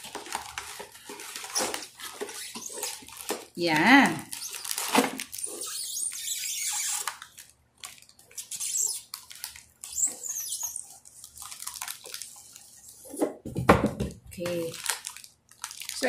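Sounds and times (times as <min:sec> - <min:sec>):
cardboard and plastic rustling: 0:00.0 - 0:16.0.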